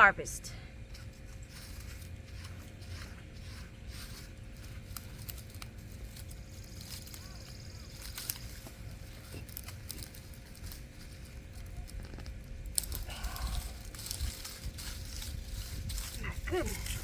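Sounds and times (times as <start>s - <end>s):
low outdoor rumble: 0.0s - 17.0s
soil rustling and scraping: 0.1s - 17.0s.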